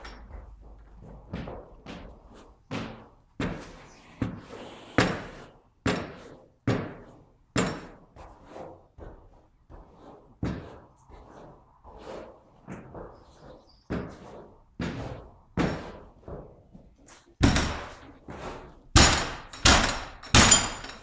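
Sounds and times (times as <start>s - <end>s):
horses banging on stable doors: 0.0s - 4.4s, 5.0s - 9.3s, 12.6s - 21.0s.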